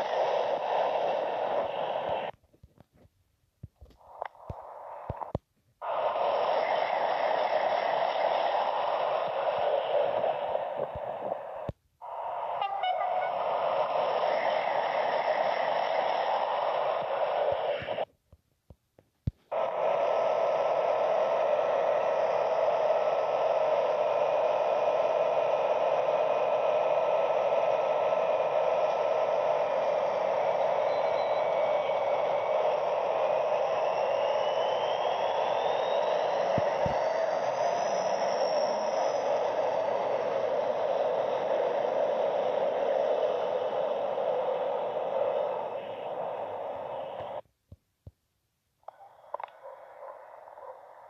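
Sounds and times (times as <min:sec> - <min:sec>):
diesel locomotive engine running: 0:00.0 - 0:02.3, 0:05.8 - 0:18.0, 0:19.5 - 0:47.4
faint rising whine: 0:00.0 - 0:02.4, 0:04.0 - 0:18.1, 0:19.5 - 0:47.4.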